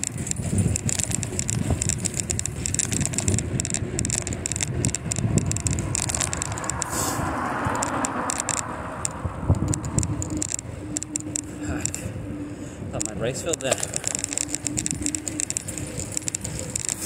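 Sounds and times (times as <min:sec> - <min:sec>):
bicycle tyre rumble: 0:00.0 - 0:17.0
bike clicks and rattles: 0:00.0 - 0:17.0
wind buffeting microphone: 0:00.0 - 0:17.0.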